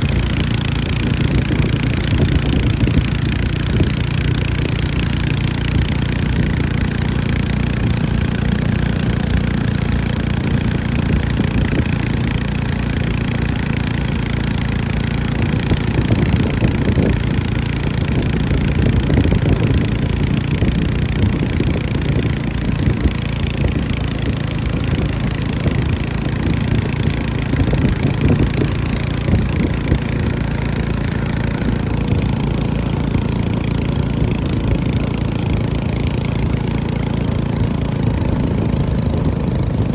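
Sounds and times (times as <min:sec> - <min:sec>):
small boat engines running: 0:00.0 - 0:39.9.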